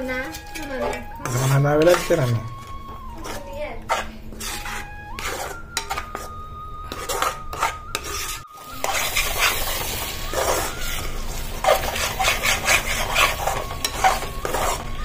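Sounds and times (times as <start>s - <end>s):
masala sizzling: 0.0s - 15.0s
spoon scraping a pan: 0.0s - 15.0s.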